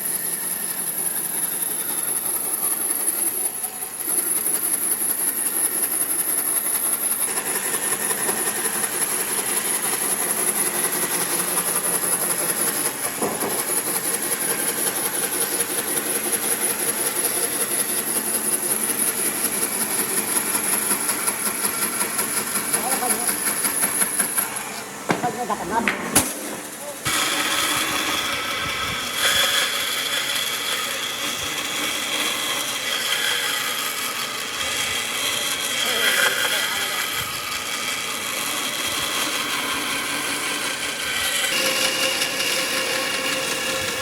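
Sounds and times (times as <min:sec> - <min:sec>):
power tool whining: 0:00.0 - 0:44.0.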